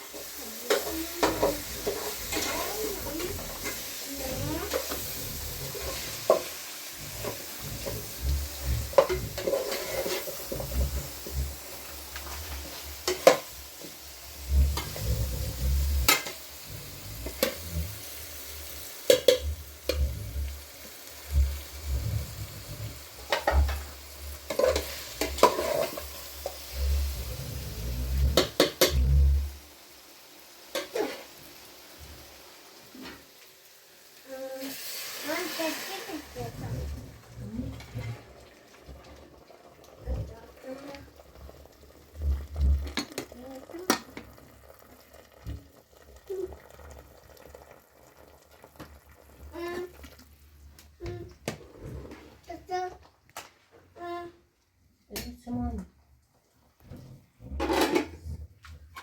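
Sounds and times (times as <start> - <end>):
sizzling hiss: 0.0 - 54.2.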